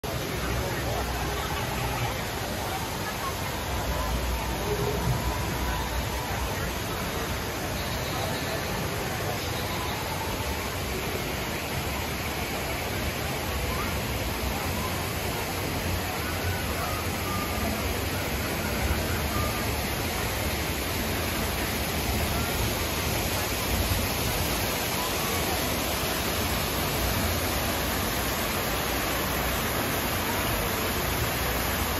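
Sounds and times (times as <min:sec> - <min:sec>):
faint voices: 0:00.0 - 0:31.9
waterfalls rushing: 0:00.0 - 0:31.9.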